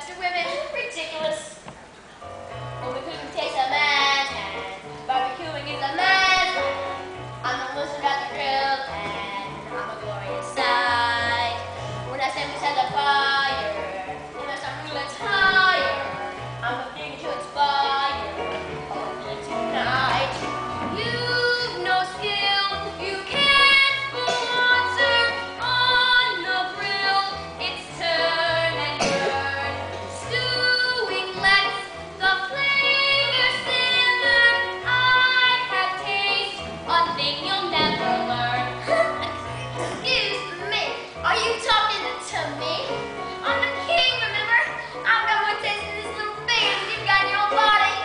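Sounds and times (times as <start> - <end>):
instrumental accompaniment: 0.5 - 48.0
young people singing show tune: 2.9 - 48.0.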